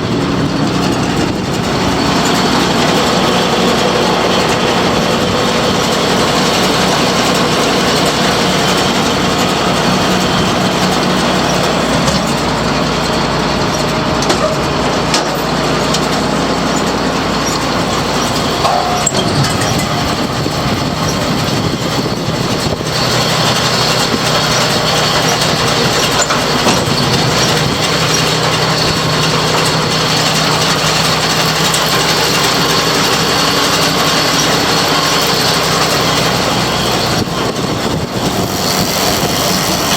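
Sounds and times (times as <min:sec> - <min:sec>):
baler running with rattling: 0:00.0 - 0:39.9
tractor engine: 0:00.0 - 0:39.9.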